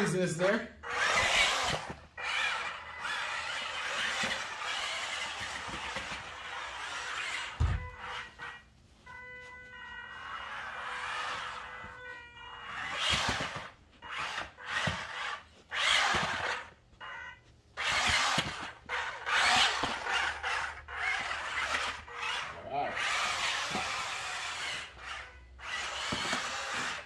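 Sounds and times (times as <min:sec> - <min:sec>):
toy truck motors whining: 0:00.0 - 0:08.7, 0:10.0 - 0:27.0.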